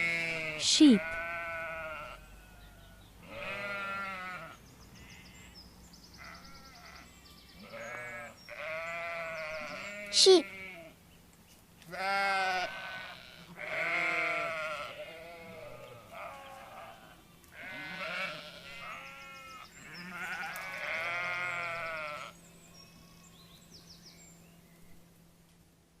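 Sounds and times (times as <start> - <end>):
sheep bleating: 0.0 - 5.6, 6.2 - 11.0, 11.9 - 22.4.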